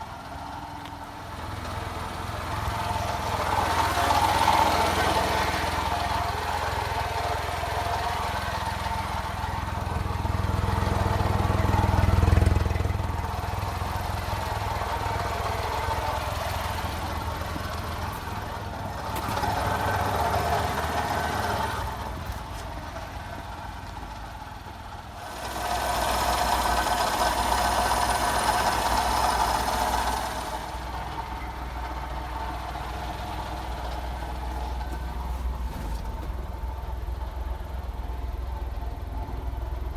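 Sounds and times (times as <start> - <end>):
small truck engine humming: 0.0 - 39.9.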